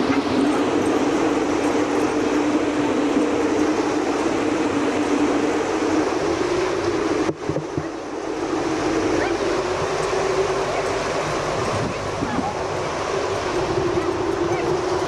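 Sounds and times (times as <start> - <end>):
low hum: 0.0 - 15.0
steady rushing noise: 0.0 - 15.0.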